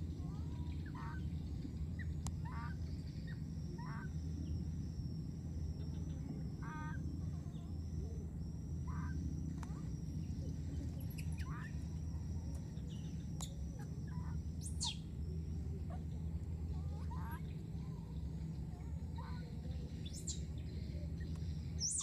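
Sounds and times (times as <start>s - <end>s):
constant high hiss: 0.0s - 22.0s
outdoor background noise: 0.0s - 22.0s.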